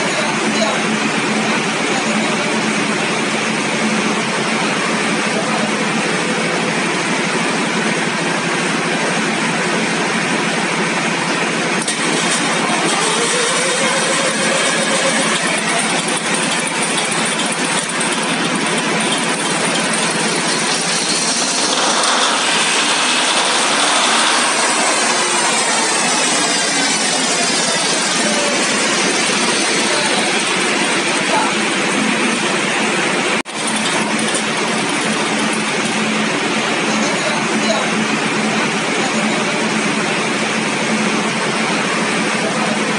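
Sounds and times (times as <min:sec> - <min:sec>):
engine mechanical roar: 0:00.0 - 0:42.9.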